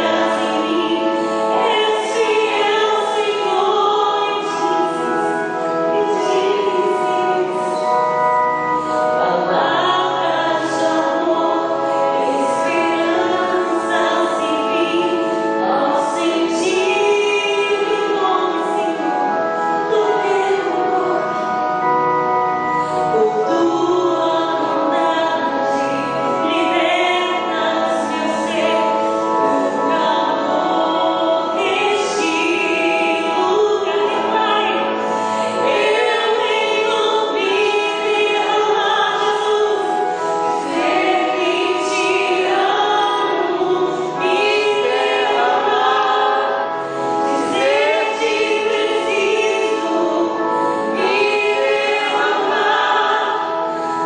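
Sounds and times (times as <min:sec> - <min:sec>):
woman singing gospel song: 0:00.0 - 0:08.0, 0:09.1 - 0:21.6, 0:22.8 - 0:54.0
church organ chords: 0:00.0 - 0:54.0.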